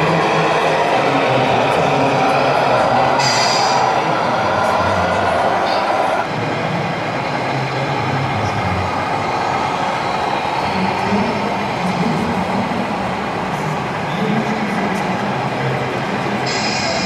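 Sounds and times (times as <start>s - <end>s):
busy hall background noise: 0.0s - 17.0s.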